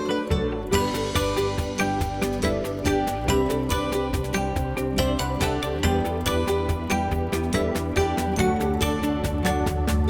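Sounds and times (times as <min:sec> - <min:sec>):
plucked string music with beat: 0:00.0 - 0:10.0.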